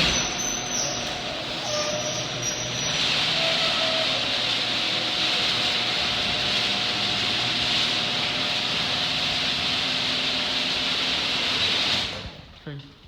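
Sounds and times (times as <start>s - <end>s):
garage door opener motor hum: 0.0s - 12.5s.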